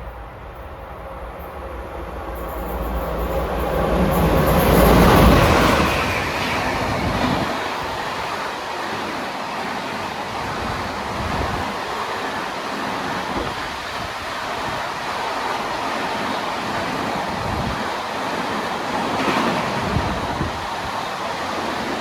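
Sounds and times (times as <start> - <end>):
train rolling along rails: 0.0 - 22.0.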